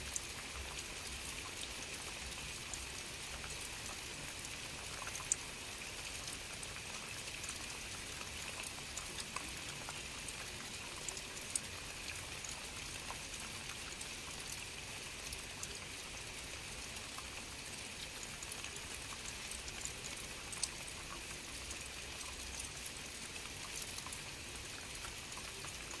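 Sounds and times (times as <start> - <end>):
steady rainfall: 0.0 - 26.0
water drips: 0.1 - 26.0.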